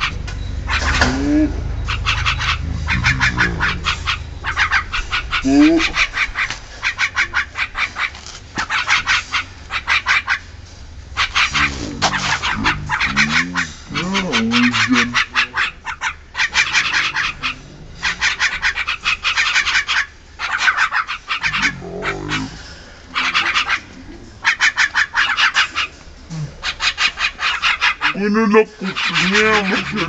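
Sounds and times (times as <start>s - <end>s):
birds chattering raspily: 0.0s - 30.0s.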